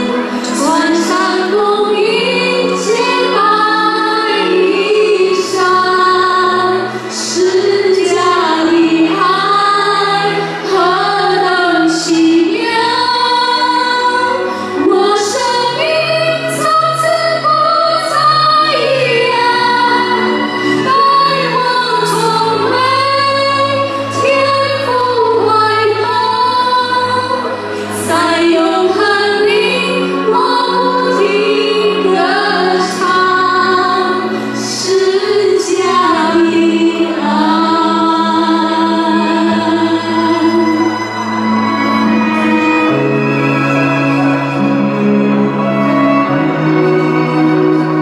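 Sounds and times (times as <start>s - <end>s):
women singing in unison: 0.0s - 41.2s
instrumental accompaniment: 0.0s - 48.0s.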